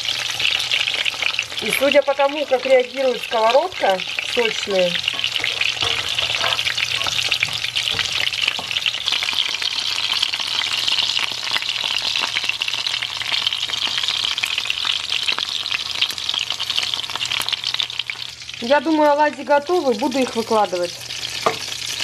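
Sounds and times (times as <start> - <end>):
oil sizzling in a pan: 0.0 - 22.0.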